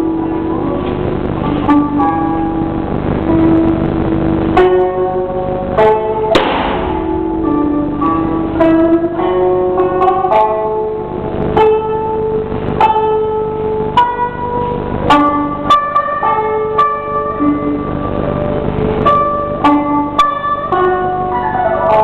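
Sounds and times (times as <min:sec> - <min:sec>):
plucked string instrument music: 0:00.0 - 0:22.0.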